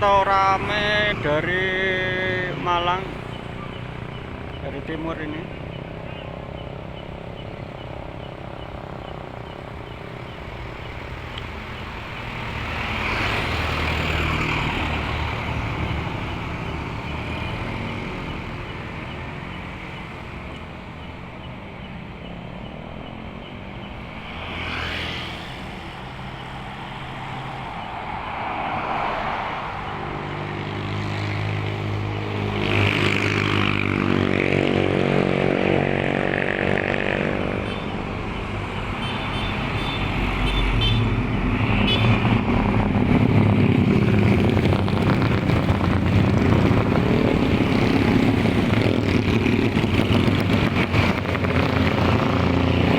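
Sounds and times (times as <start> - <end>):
vehicles passing by: 0.0 - 52.9.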